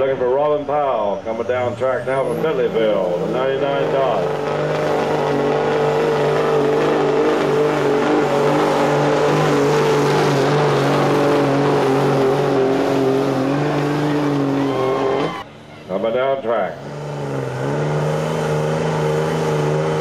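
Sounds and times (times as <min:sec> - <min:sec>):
diesel truck engine droning: 0:00.0 - 0:20.0.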